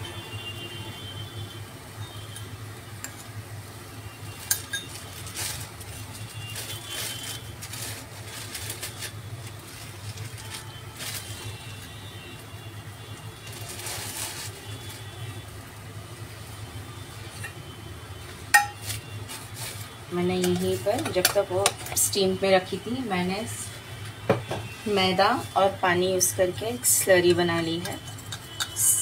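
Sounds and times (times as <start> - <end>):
faint sizzle: 0.0 - 29.0.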